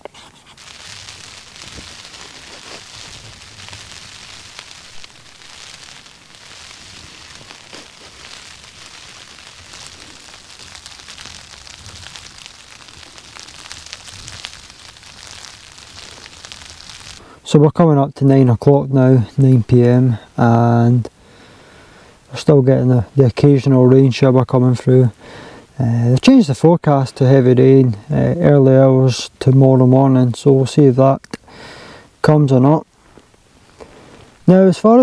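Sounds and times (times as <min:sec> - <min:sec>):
rain on tent fabric: 0:00.4 - 0:35.0.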